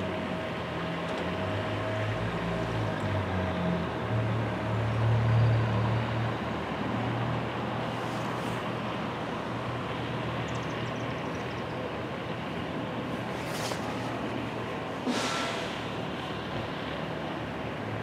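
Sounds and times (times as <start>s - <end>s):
low engine hum: 0.0s - 18.0s
outdoor traffic noise: 0.0s - 18.0s.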